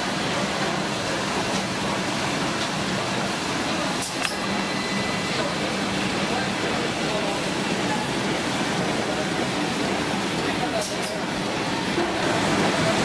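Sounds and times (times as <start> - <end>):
machinery humming and hissing: 0.0 - 13.0.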